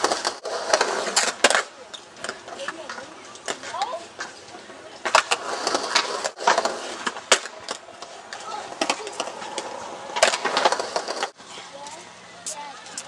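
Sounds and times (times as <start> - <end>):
skateboard clacking on concrete: 0.0 - 13.0
skateboard wheels rolling on concrete: 0.0 - 13.0.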